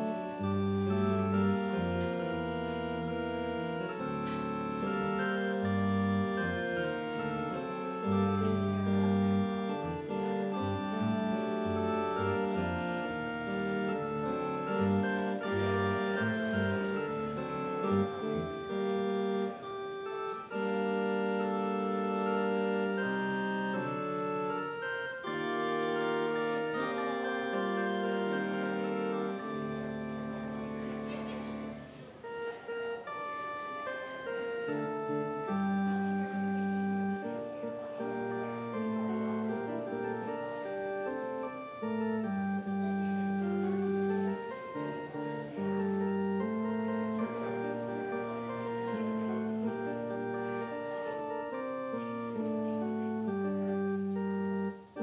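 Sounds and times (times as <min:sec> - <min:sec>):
organ playing chords: 0:00.0 - 0:55.0.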